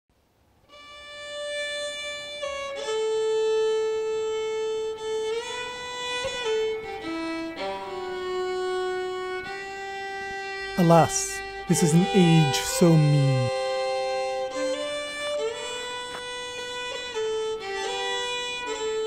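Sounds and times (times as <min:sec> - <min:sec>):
solo violin slow melody: 0:00.6 - 0:19.0.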